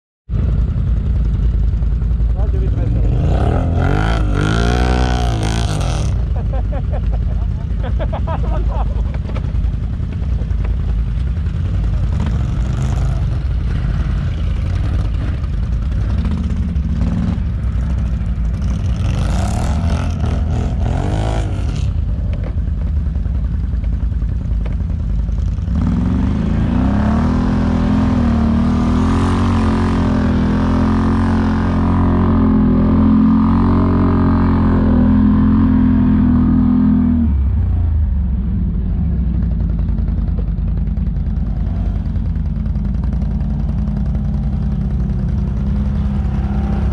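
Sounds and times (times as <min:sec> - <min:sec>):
atv engine running and revving: 0:00.3 - 0:46.9.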